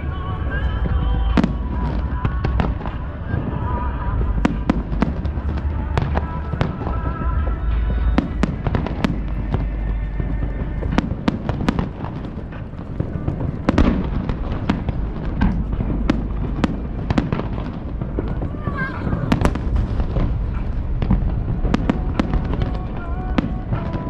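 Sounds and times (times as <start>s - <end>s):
firework bangs and crackles: 0.0s - 24.0s
low rumble of booms: 0.0s - 24.0s.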